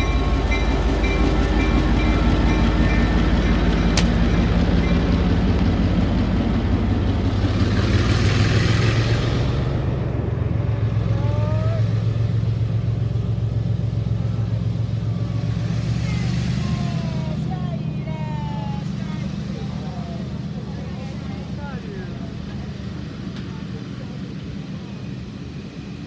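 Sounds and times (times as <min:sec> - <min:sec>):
diesel locomotive engine running: 0:00.0 - 0:26.0
train coaches rolling past: 0:00.0 - 0:26.0.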